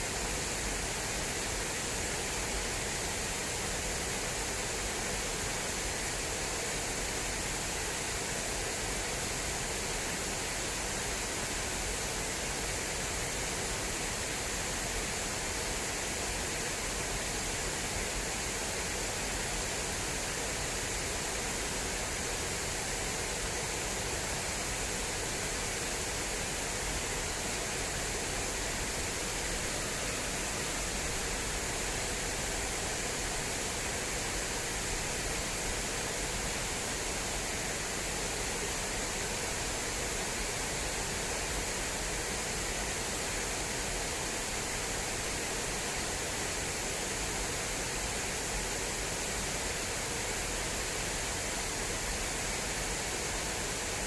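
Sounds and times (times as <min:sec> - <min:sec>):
water rushing along a channel: 0:00.1 - 0:54.0.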